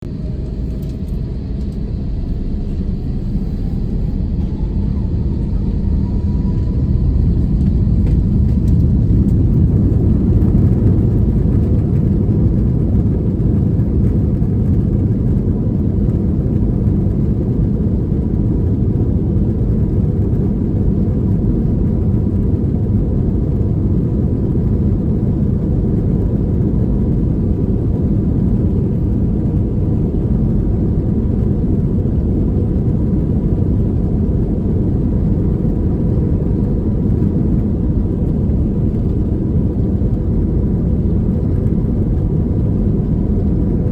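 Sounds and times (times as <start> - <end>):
jet engines rumbling in cabin: 0.0 - 43.9.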